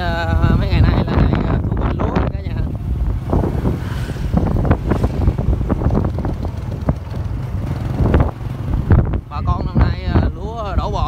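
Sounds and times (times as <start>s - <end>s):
vehicle rumble: 0.0s - 11.0s
wind buffeting microphone: 0.0s - 11.0s.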